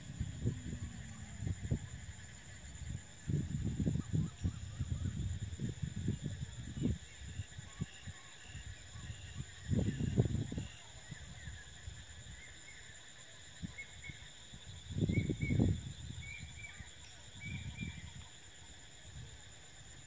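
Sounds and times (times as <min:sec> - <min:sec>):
wind buffeting microphone: 0:00.0 - 0:12.5, 0:13.6 - 0:20.0
insects droning: 0:00.0 - 0:20.0.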